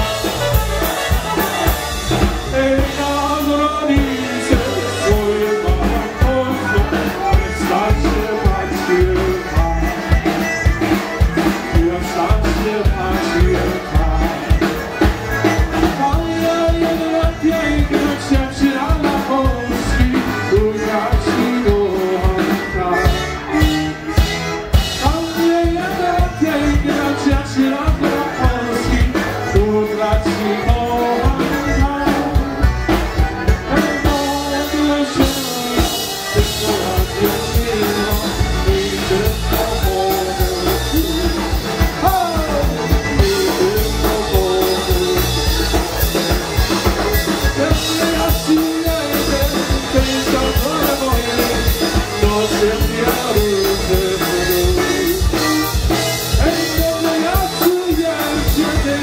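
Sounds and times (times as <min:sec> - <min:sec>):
person singing: 0:00.0 - 0:23.9, 0:24.7 - 0:59.0
live polka band playing: 0:00.0 - 0:59.0.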